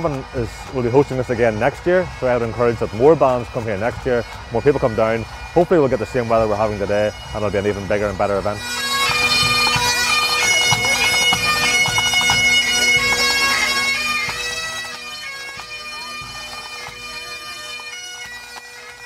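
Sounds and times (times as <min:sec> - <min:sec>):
drums beating: 0:00.0 - 0:17.2
bagpipes playing: 0:00.0 - 0:19.0.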